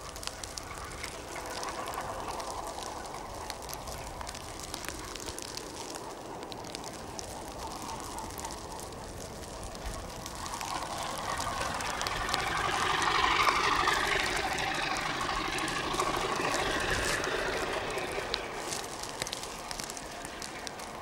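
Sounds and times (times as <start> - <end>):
train approaching: 0.0 - 21.0.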